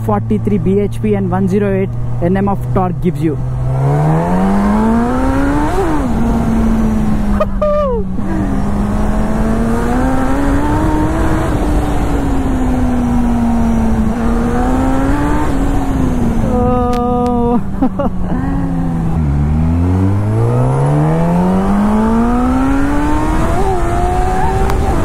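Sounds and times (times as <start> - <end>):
motorcycle engine accelerating hard: 0.0 - 25.0.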